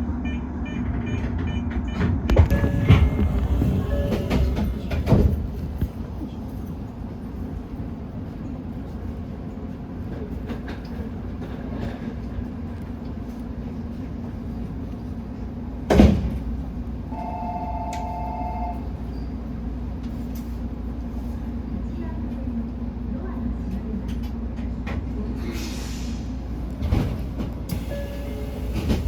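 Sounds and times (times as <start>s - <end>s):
electric train rumbling: 0.0s - 29.0s.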